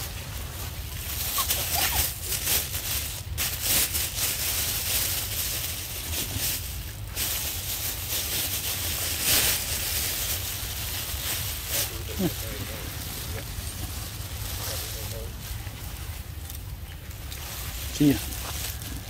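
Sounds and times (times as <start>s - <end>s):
rustling of leafy undergrowth: 0.0s - 19.0s
steady low rumble: 0.0s - 19.0s.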